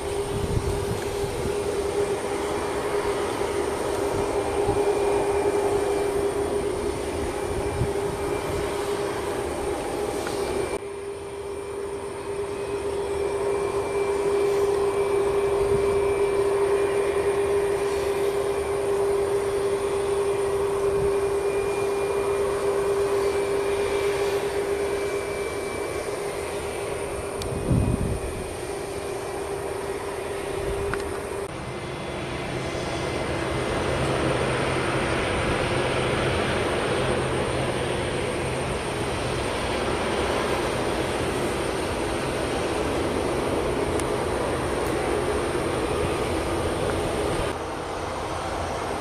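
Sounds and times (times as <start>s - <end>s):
jet engines taxiing: 0.0s - 49.0s.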